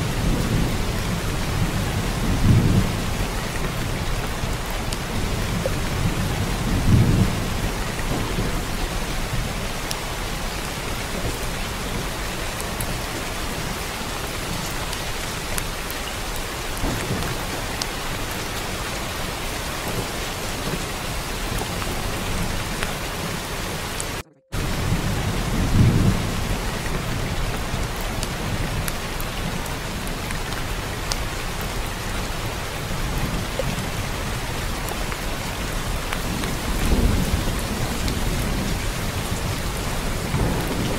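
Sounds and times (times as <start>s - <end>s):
steady rain: 0.0s - 40.9s
thunder rumbling: 0.0s - 40.9s.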